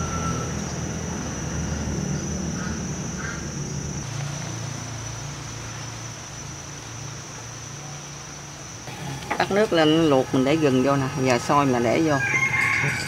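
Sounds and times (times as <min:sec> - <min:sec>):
low engine-like rumble: 0:00.0 - 0:12.2
steady high whine: 0:00.0 - 0:13.0.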